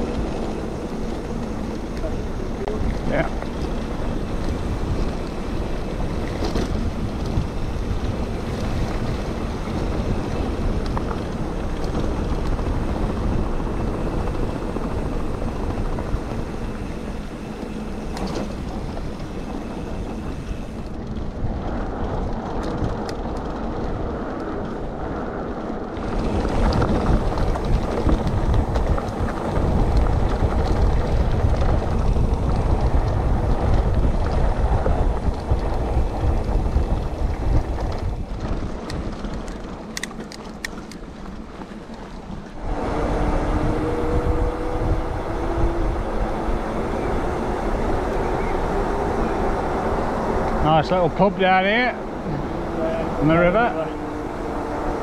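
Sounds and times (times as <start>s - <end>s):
bike tyres rumbling on dirt: 0.0s - 55.0s
wind on microphone: 0.0s - 55.0s.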